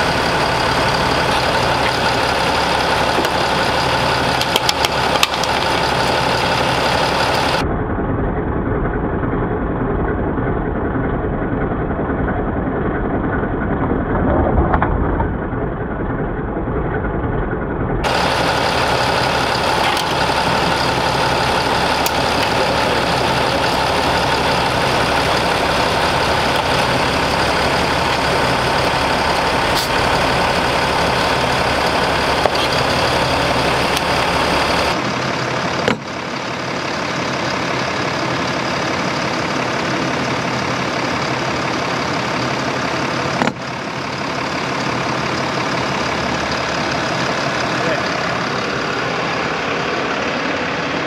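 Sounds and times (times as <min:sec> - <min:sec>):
diesel engine idling: 0:00.0 - 0:14.3, 0:14.9 - 0:51.0.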